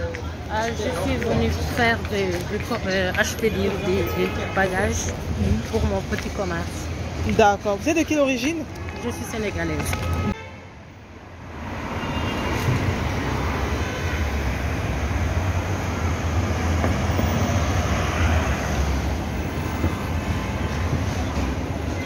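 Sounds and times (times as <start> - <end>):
cars driving past: 0.0 - 22.0
steady traffic rumble: 0.0 - 22.0.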